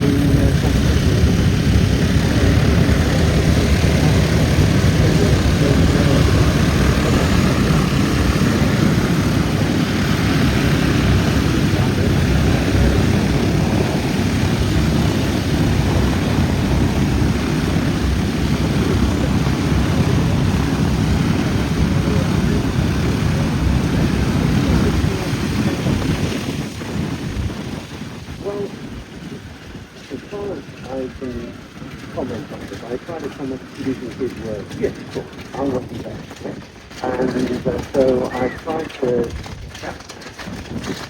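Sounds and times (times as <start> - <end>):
propeller aircraft engines droning: 0.0 - 41.0.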